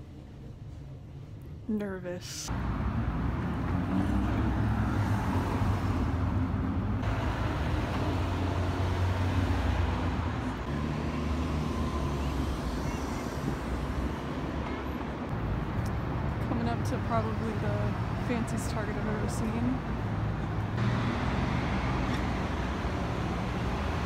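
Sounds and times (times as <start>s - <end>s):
low rumble of traffic: 0.0s - 24.0s
bus running: 2.4s - 24.0s.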